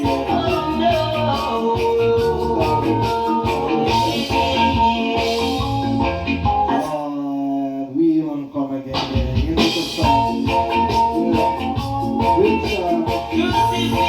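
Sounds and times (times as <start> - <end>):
reggae music with organ chords: 0.0 - 7.3, 8.8 - 14.0.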